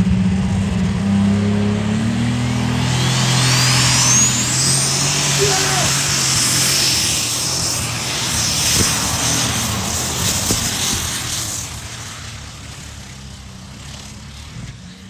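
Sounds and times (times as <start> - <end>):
tractor engine at full power: 0.0 - 15.0.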